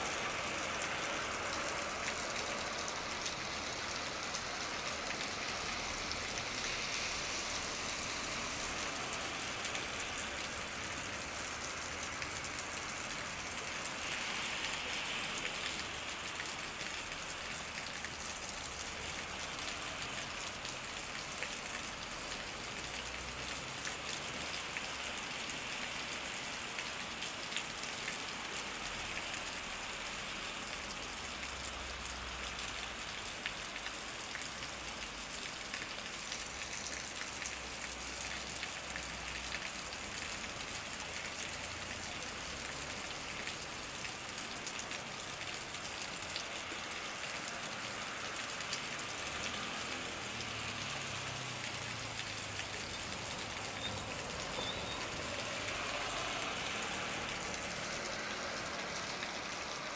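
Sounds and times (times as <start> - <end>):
heavy rain on street: 0.0 - 59.9.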